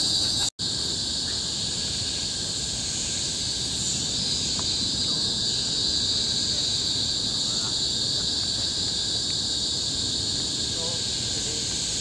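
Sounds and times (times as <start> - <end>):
cicadas shrilling: 0.0 - 12.0.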